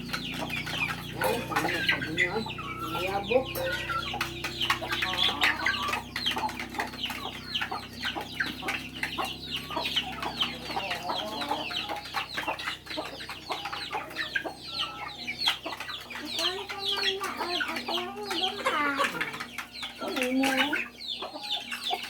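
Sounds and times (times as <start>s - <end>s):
chickens clucking and calling: 0.0s - 22.0s.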